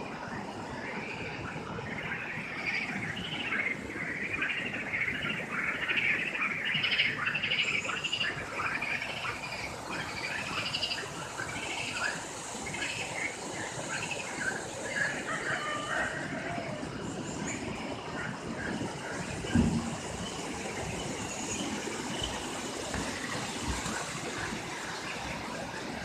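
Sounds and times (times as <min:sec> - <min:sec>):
birds chirping in chorus: 0:01.9 - 0:25.8.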